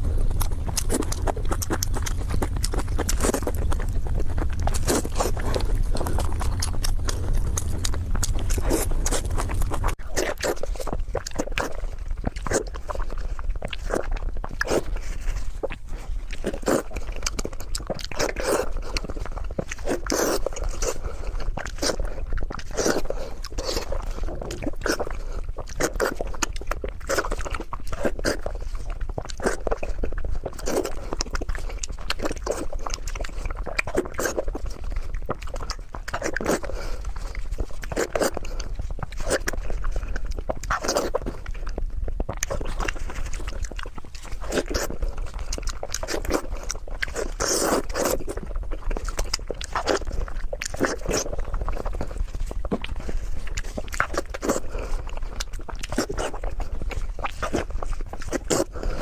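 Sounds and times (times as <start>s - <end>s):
wet chewing and lip-smacking: 0.0s - 59.0s.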